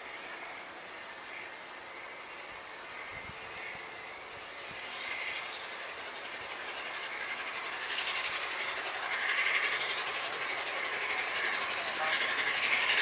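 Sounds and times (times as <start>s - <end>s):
steam locomotive exhaust: 0.0s - 13.0s
train wheels on rails: 0.0s - 13.0s.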